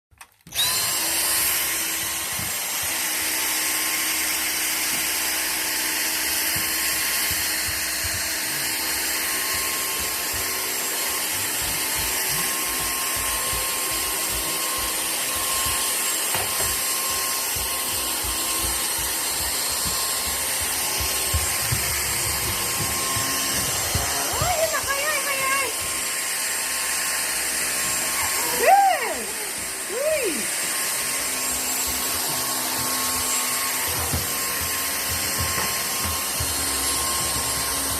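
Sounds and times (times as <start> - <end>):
vacuum cleaner running: 0.2 - 37.9.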